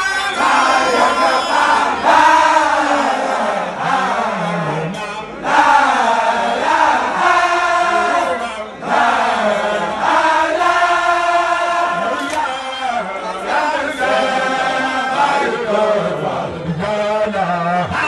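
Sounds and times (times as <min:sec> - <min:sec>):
many voices chanting in unison: 0:00.0 - 0:18.0.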